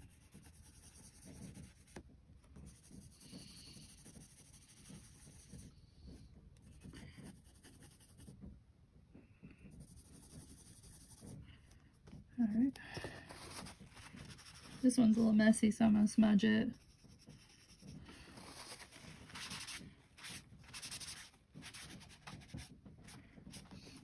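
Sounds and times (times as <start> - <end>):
pencil scratching on paper: 0.0 - 8.4, 9.6 - 11.8, 12.4 - 15.5, 16.7 - 22.7.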